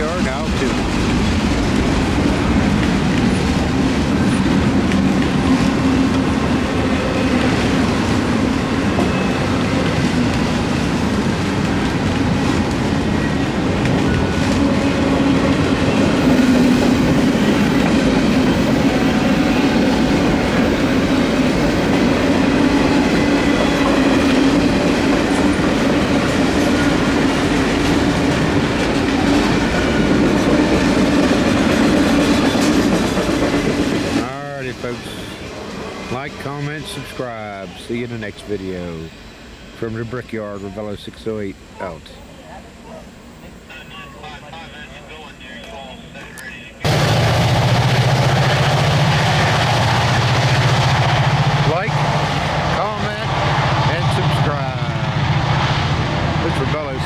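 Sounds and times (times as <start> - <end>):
freight train rolling over rails: 0.0 - 57.0.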